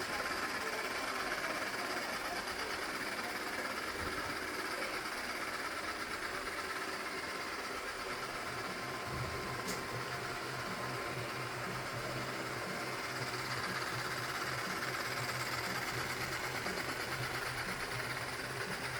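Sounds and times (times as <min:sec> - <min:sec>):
robot vacuum whirring: 0:00.0 - 0:18.9.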